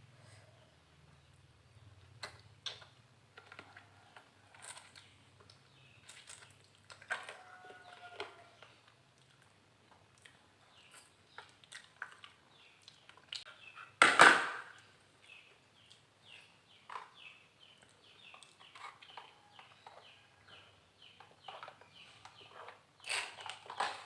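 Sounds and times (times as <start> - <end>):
small birds chirping: 0.2 - 14.0, 14.7 - 24.0.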